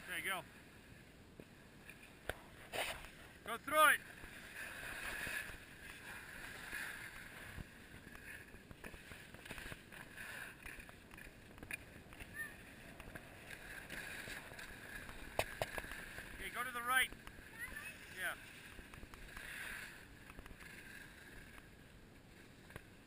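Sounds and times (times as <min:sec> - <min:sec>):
skis scraping on snow: 0:01.9 - 0:23.0.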